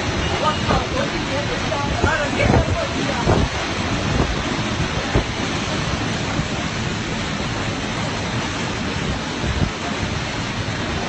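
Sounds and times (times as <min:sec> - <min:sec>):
wind blowing over microphone: 0:00.0 - 0:11.0.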